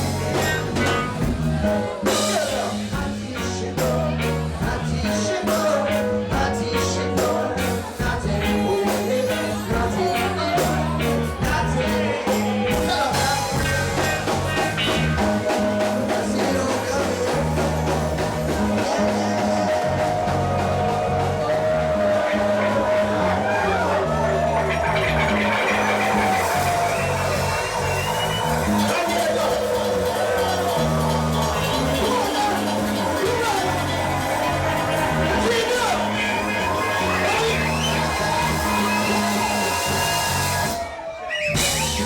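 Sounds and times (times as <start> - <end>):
person singing: 0.0 - 40.3
bass line: 0.0 - 42.0
drum kit: 0.0 - 42.0.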